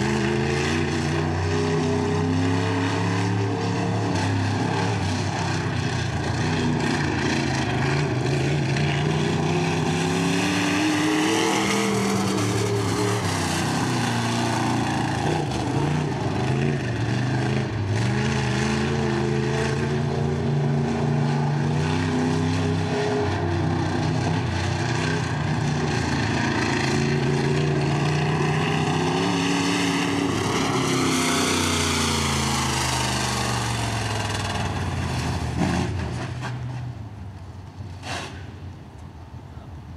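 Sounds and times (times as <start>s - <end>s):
race car engine accelerating: 0.0s - 36.8s.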